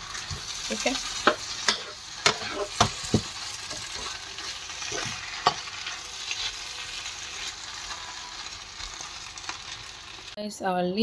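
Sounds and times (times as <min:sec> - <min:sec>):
food sizzling in a pan: 0:00.0 - 0:10.4.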